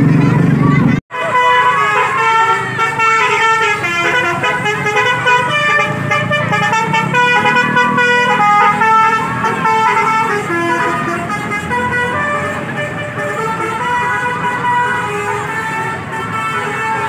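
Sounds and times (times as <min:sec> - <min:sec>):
musical bus horn playing a tune: 0:00.0 - 0:17.0.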